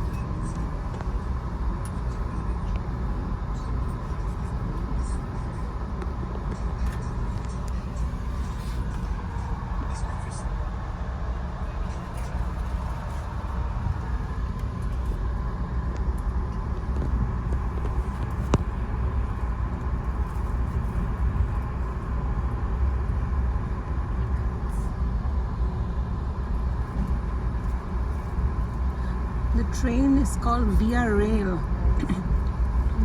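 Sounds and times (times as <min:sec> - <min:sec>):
passenger train rumbling: 0:00.0 - 0:33.0.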